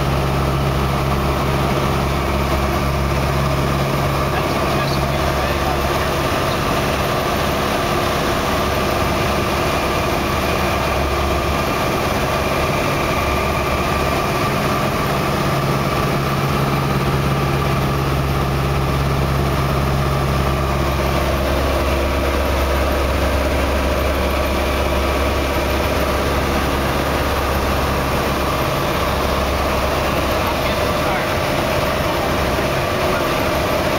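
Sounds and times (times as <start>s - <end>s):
light aircraft engine and propeller: 0.0s - 33.9s.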